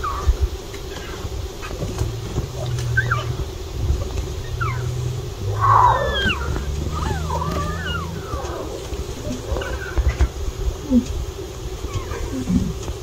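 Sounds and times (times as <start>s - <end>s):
lion cubs mewing and chirping: 0.0s - 1.8s, 2.5s - 11.1s, 11.8s - 12.8s
low steady hum: 1.0s - 13.0s.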